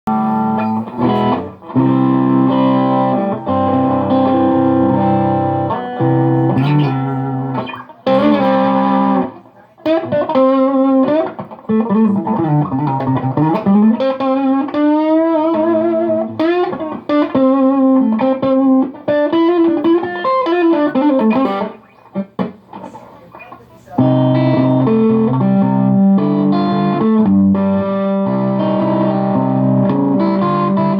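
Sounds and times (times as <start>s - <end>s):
electric guitar playing: 0.1s - 30.9s.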